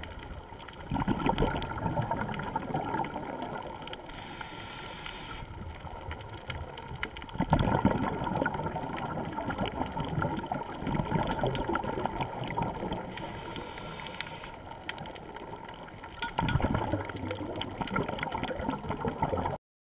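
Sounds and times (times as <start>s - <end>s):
underwater bubbles rushing: 0.0s - 19.6s.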